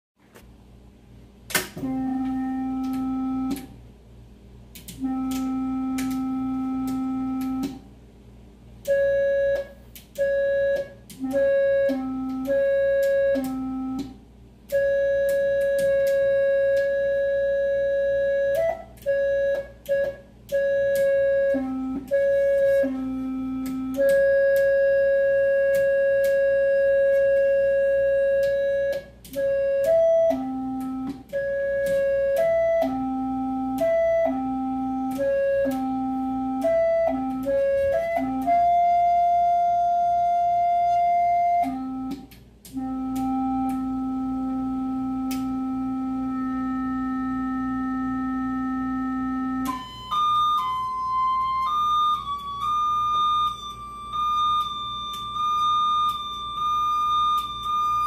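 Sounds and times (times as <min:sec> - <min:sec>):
electronic organ-like tones: 0:01.5 - 0:03.8, 0:04.8 - 0:07.8, 0:08.8 - 0:58.0.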